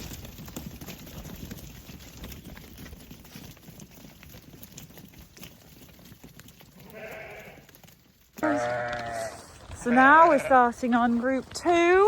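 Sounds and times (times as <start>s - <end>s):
sheep hooves clattering: 0.0s - 12.0s.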